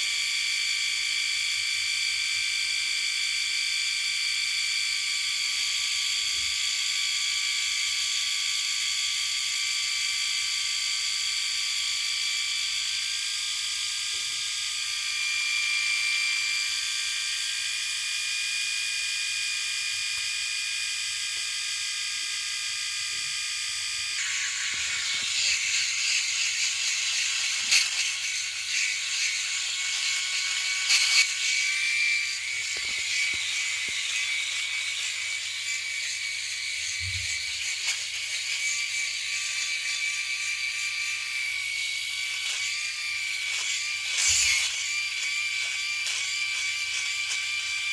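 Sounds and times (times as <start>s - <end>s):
electric shaver buzzing: 0.0s - 47.9s.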